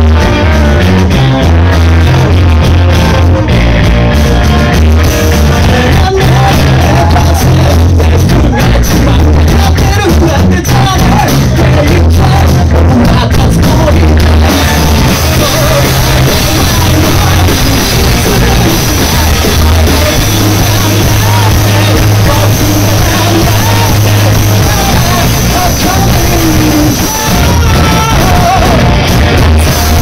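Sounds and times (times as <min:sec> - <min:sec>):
bass guitar: 0:00.0 - 0:30.0
drum kit: 0:00.0 - 0:30.0
electric guitar: 0:00.0 - 0:30.0
person singing into a microphone: 0:00.0 - 0:30.0.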